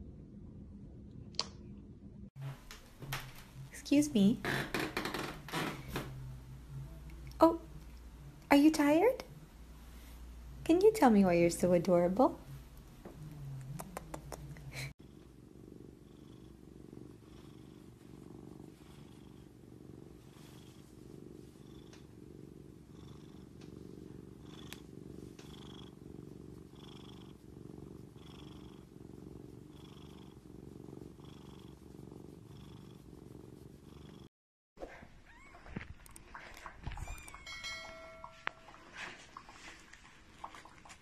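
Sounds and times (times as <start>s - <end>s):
cat purring: 5.8s - 41.0s.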